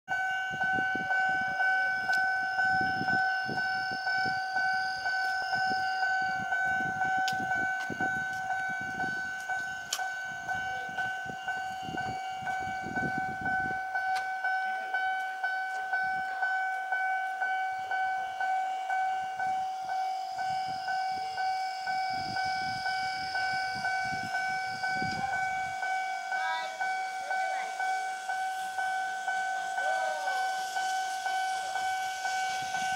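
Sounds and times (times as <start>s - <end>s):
level-crossing warning bell: 0.1s - 32.9s.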